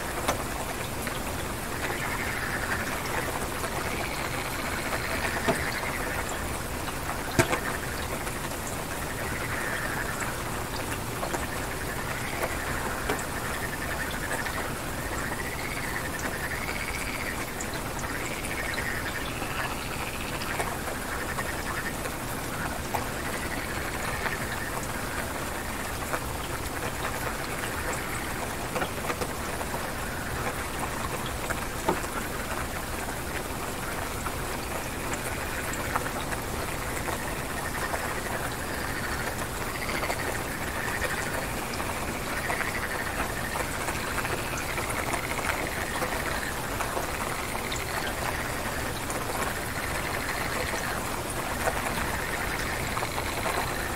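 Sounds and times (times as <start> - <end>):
rain falling: 0.0 - 53.9
raindrops ticking: 0.0 - 53.9
frogs calling: 0.1 - 53.9.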